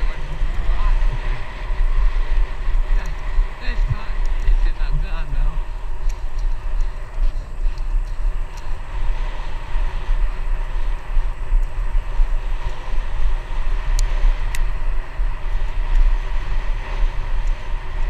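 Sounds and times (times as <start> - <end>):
bicycle tyres on rough pavement: 0.0 - 18.0
wind buffeting microphone: 0.0 - 18.0.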